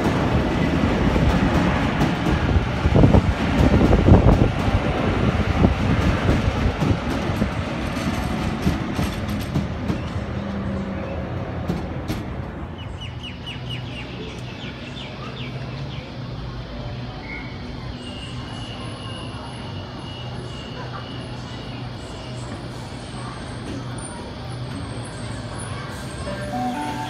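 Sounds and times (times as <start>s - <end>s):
train passing on tracks: 0.0s - 27.0s.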